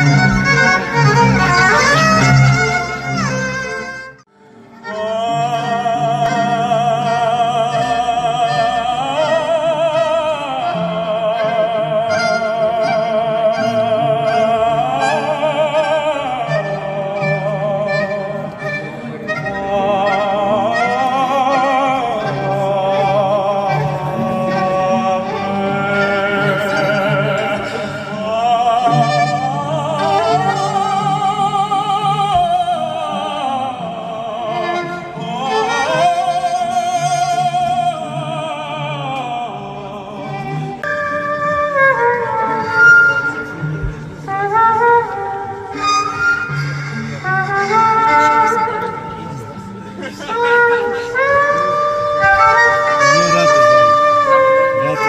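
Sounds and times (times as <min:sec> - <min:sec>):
low musical accompaniment: 0:00.0 - 0:55.0
soaring vibrato melody: 0:00.0 - 0:55.0.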